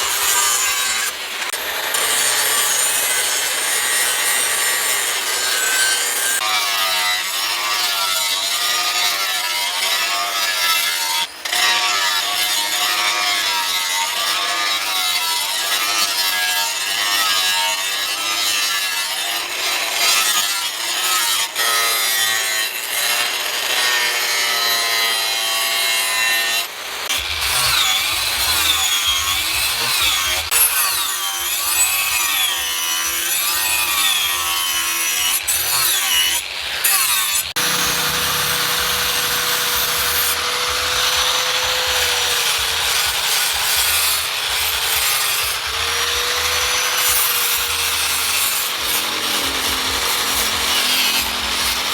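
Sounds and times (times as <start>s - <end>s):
hand saw strokes squealing: 0.0s - 23.4s, 24.1s - 51.9s.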